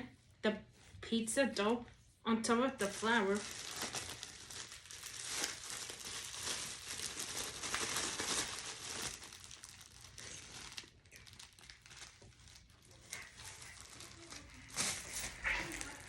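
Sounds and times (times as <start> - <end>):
plastic packaging crinkling: 2.8 - 16.0.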